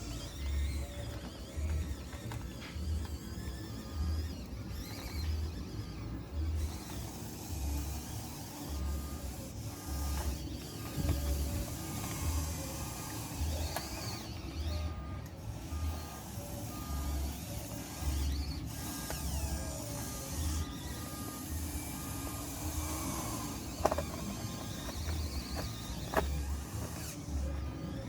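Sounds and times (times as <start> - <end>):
faint motor whine: 0.0 - 28.0
reversing alarm beeps: 0.0 - 28.0.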